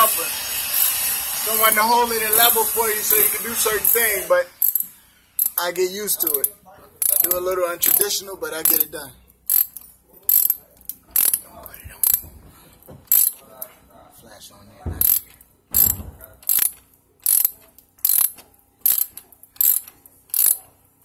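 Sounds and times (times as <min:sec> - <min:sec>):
ratchet wrench clicking: 0:00.6 - 0:12.3, 0:13.1 - 0:13.4, 0:15.0 - 0:20.7.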